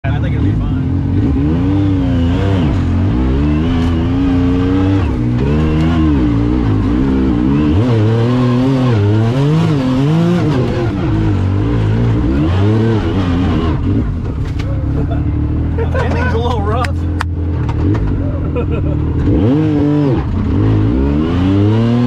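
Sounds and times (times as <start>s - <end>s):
engine revving: 0.0s - 22.0s.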